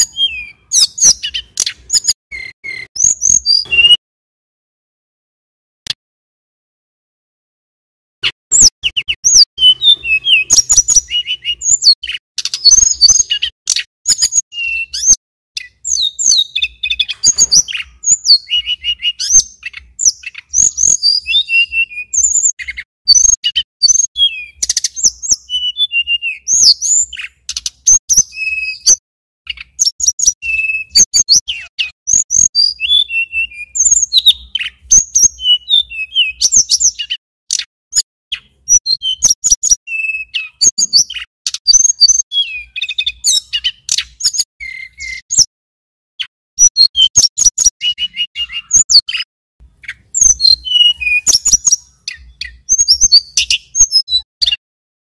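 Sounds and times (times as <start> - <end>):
bird singing fast whistled chirps: 0.0 - 4.0, 8.5 - 37.7, 38.3 - 45.5, 46.2 - 54.6.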